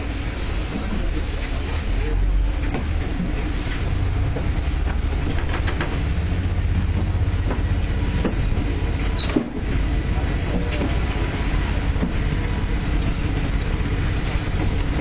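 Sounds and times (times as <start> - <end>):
train rumbling on rails: 0.0 - 15.0
wheels clicking on rails: 0.0 - 15.0.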